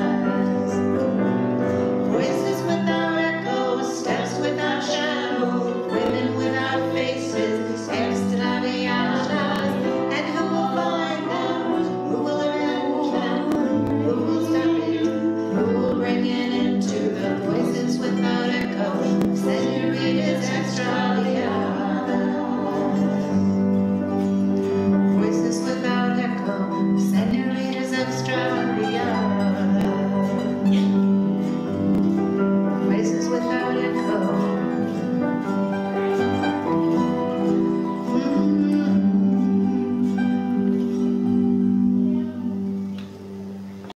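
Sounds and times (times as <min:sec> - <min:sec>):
woman singing: 0:00.0 - 0:24.0, 0:25.1 - 0:43.0
acoustic guitar: 0:00.0 - 0:43.9
autoharp: 0:00.0 - 0:43.9
piano: 0:00.0 - 0:43.9.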